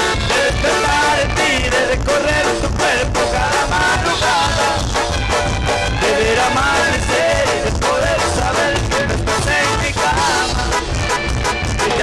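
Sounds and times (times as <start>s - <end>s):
norteno band music: 0.0s - 12.0s.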